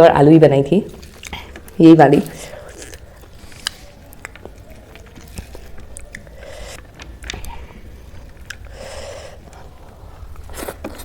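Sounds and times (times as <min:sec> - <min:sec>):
person chewing and biting: 0:00.9 - 0:11.0.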